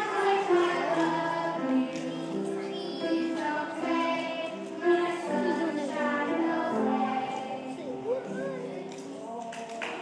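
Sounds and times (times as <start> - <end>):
children singing together: 0.0 - 9.4.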